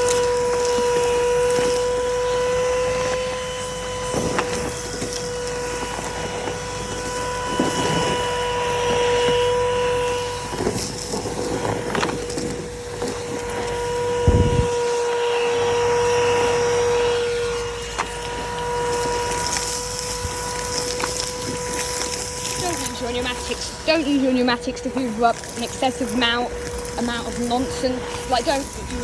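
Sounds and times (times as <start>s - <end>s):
vacuum cleaner motor whine: 0.0s - 29.0s.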